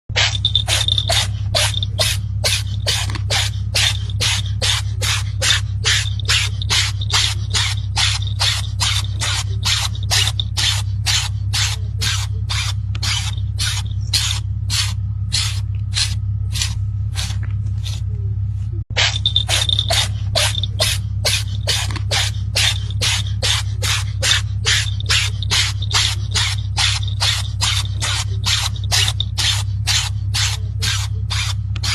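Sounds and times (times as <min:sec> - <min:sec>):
low hum: 0:00.1 - 0:31.9.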